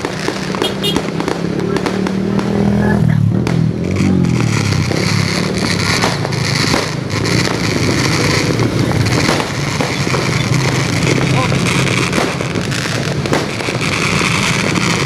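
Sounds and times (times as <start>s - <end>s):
firecracker pops: 0.0s - 15.0s
motorbike engine revving: 0.0s - 15.0s.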